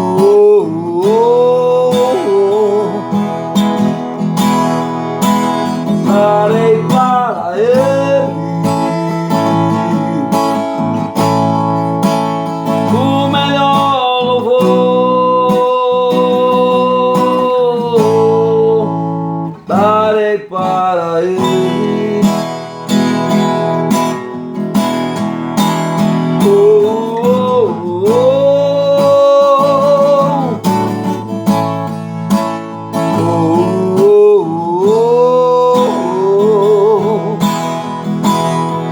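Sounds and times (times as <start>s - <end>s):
person singing: 0.0s - 3.7s, 5.6s - 11.2s, 12.7s - 23.4s, 26.1s - 31.3s, 32.9s - 38.9s
acoustic guitar strumming: 0.0s - 38.9s.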